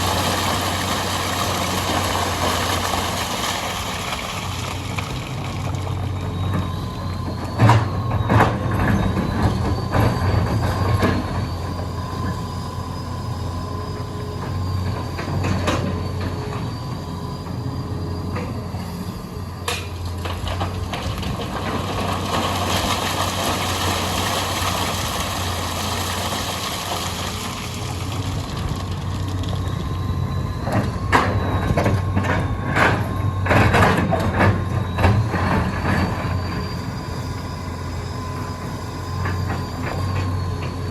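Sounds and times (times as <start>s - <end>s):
excavator diesel engine running: 0.0s - 40.9s
high hydraulic whine: 0.0s - 40.9s.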